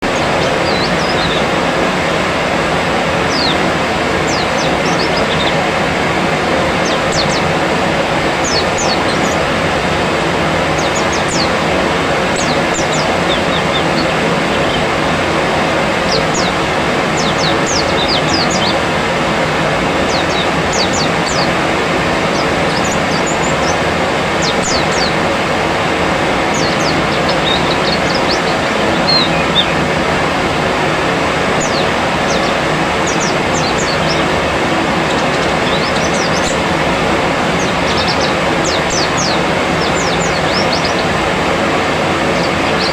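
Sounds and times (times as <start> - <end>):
small birds chirping: 0.0 - 42.9
steady rushing noise: 0.0 - 42.9.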